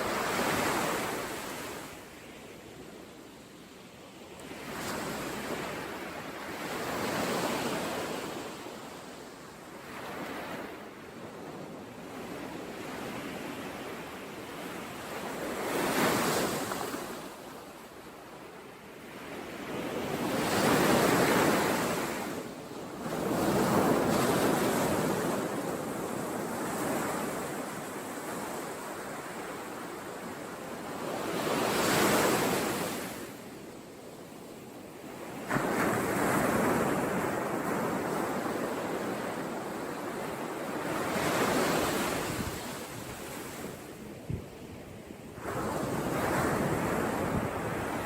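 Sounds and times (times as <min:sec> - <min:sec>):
ocean waves breaking on shore: 0:00.0 - 0:48.0.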